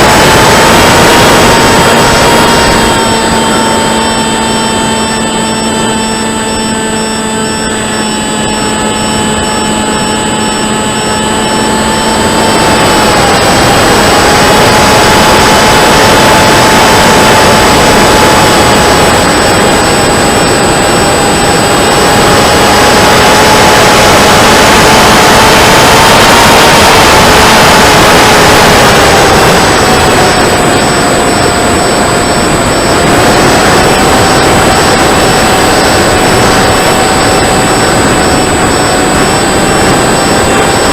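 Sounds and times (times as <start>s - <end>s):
electric motor and propeller whine: 0.0s - 40.9s
wind rush on microphone: 0.0s - 40.9s.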